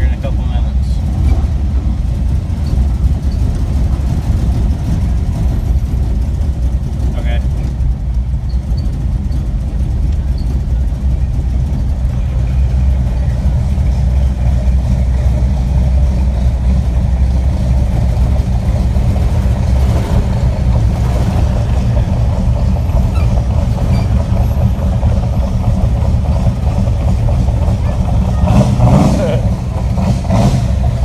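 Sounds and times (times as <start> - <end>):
car engine deep rumble: 0.0 - 31.0.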